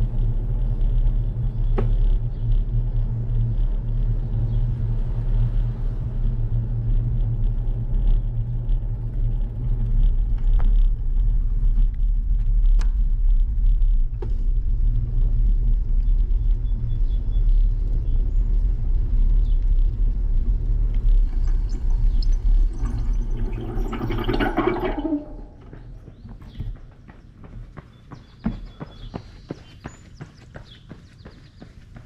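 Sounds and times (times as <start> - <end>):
wind on microphone: 0.0 - 27.1
bicycle tyres rumbling on road: 0.0 - 32.0.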